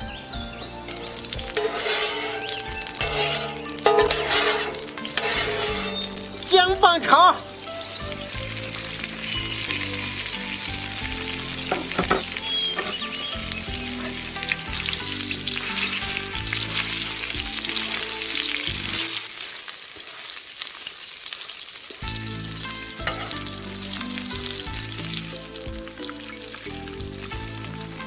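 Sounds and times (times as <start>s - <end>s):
meat sizzling in hot oil: 0.0s - 28.0s.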